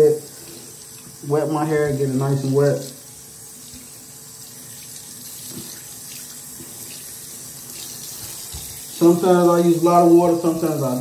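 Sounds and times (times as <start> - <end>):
faucet water splashing on hair: 0.0 - 11.0.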